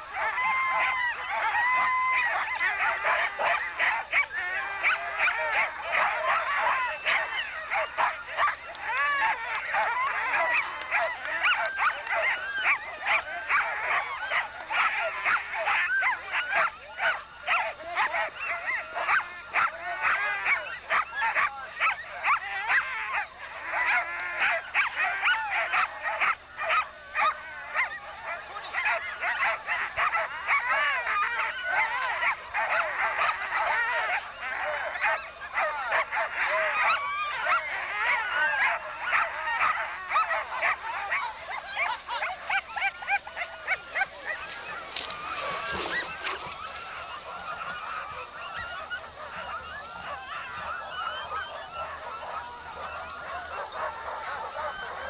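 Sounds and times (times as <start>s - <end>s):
dogs barking and yelping: 0.0s - 55.0s.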